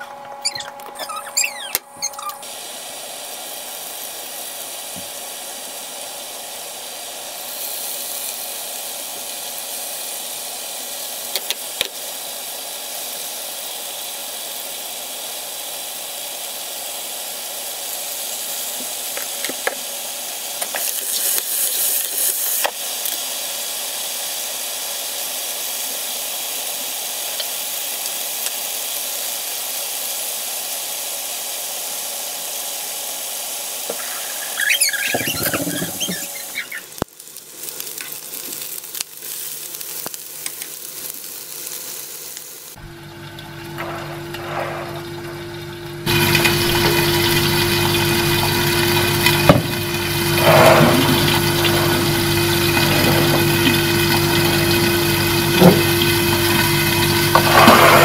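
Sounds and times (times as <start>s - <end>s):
chicken frying in hot oil: 0.4s - 58.0s.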